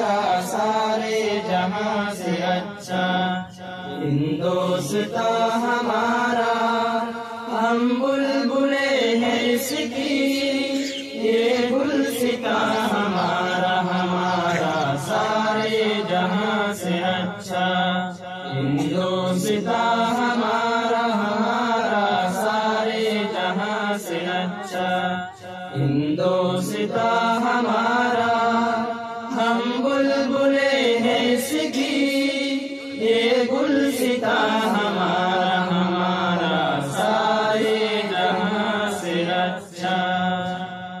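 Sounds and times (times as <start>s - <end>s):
chant-like singing: 0.0s - 41.0s.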